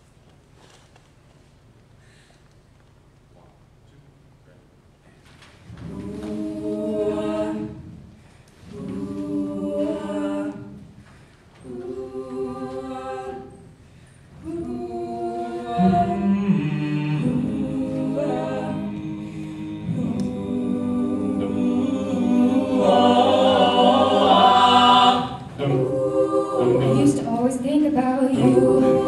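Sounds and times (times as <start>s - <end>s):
choir singing a cappella: 5.7s - 29.0s.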